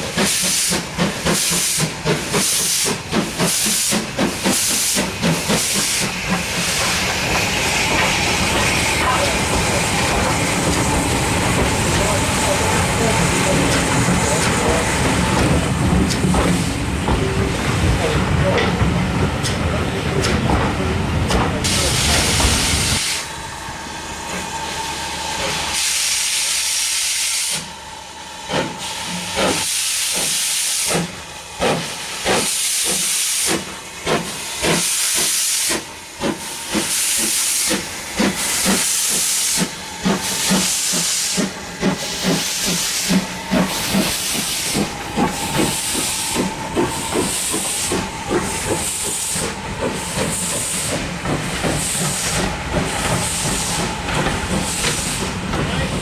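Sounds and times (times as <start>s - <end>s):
hiss of steam: 0.0s - 16.8s, 21.6s - 23.3s, 25.4s - 27.7s, 28.5s - 56.0s
steam locomotive exhaust beats: 0.0s - 56.0s.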